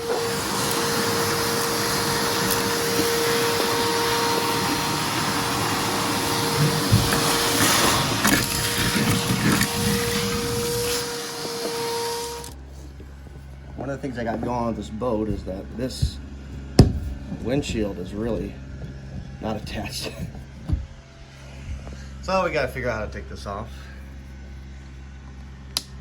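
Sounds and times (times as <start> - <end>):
mid-pitched machine whine: 0.0 - 26.0.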